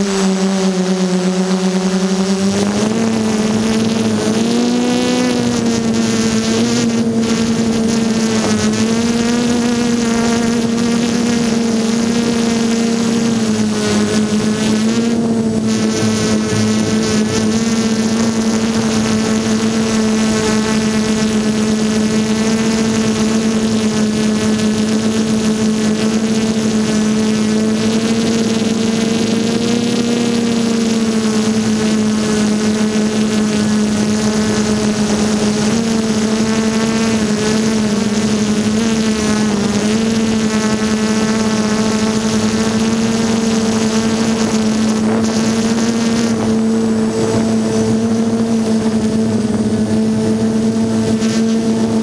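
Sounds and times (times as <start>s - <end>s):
drone motors whining: 0.0s - 52.0s.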